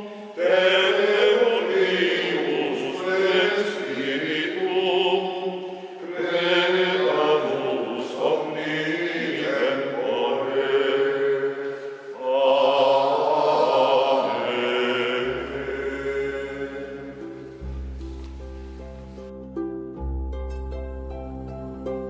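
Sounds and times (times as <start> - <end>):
sacred vocal chant: 0.0 - 17.8.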